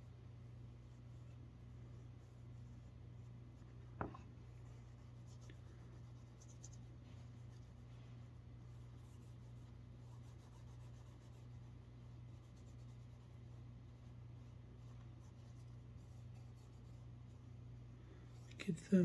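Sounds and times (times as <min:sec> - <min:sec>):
steady low hum: 0:00.0 - 0:19.0
cloth dauber rubbing leather: 0:00.7 - 0:17.2.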